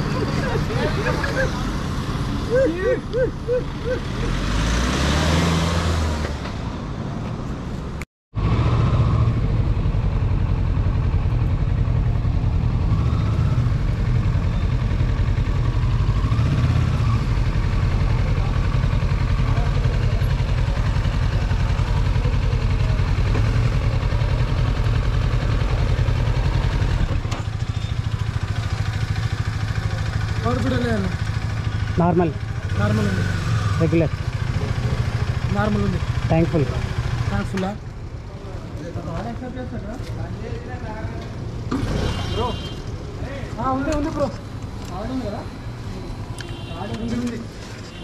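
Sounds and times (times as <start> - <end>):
motorcycle engine running: 8.6 - 48.0.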